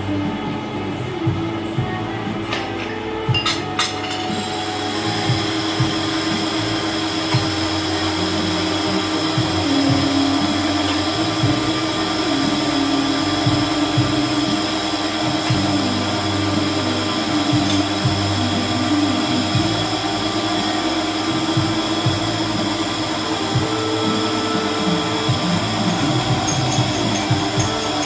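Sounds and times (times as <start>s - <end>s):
small motor whirring: 4.3s - 28.0s.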